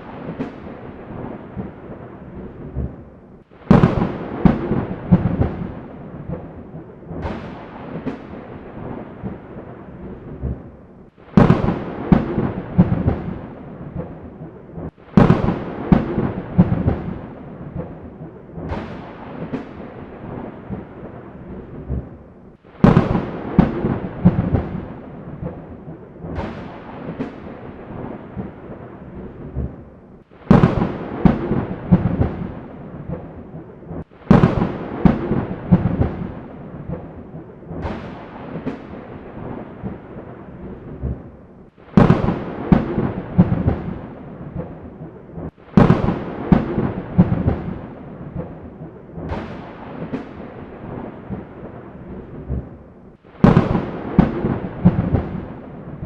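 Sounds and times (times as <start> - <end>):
thunder cracking and rumbling: 0.0 - 56.0.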